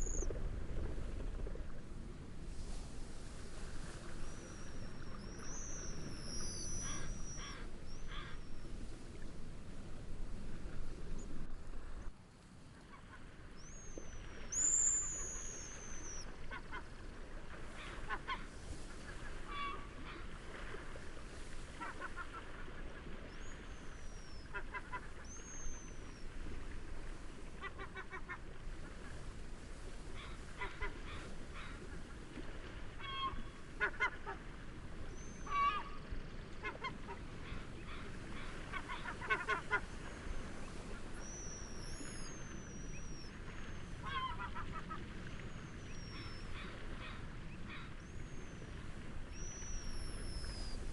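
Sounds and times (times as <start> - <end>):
waterbirds calling: 0.0 - 0.4, 3.8 - 10.0, 12.7 - 50.9
gentle waves: 0.0 - 50.9
wind: 0.0 - 50.9.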